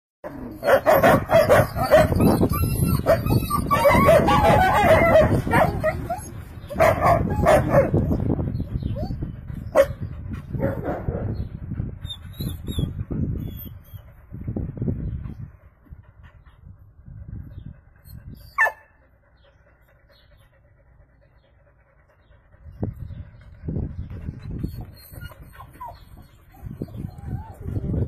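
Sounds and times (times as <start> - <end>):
puppies barking and yipping: 0.3 - 11.2, 12.0 - 14.2, 18.0 - 28.0.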